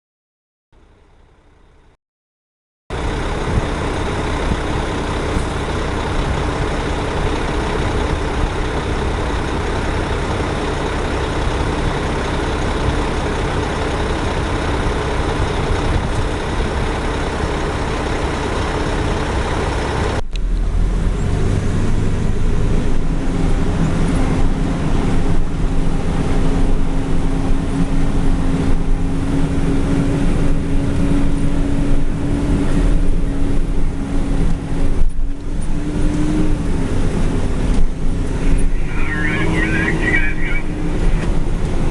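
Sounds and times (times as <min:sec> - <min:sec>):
heavy diesel machinery running: 0:00.8 - 0:02.0, 0:02.9 - 0:41.9
deep rumble with steady hum: 0:02.9 - 0:41.9.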